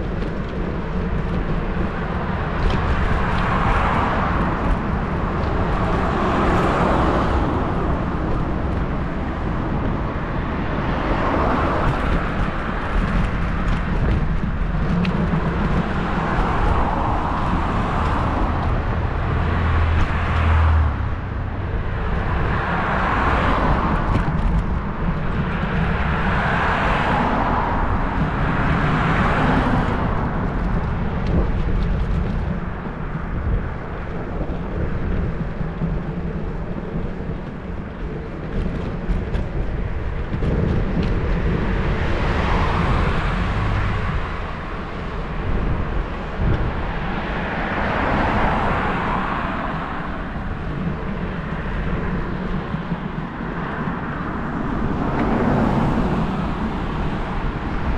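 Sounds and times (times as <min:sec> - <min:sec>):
cars passing: 0:00.0 - 0:57.9
low wind rumble on microphone: 0:00.0 - 0:57.9.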